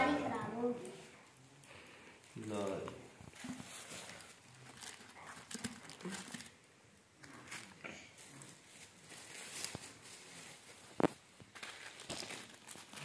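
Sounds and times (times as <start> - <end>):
plastic and paper wrapping crinkling: 1.7 - 13.0.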